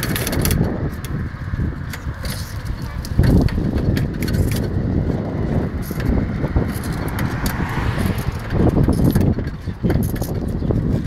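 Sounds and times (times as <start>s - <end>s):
bicycle clicks and rattles: 0.0s - 11.0s
wind rumbling on microphone: 0.0s - 11.0s.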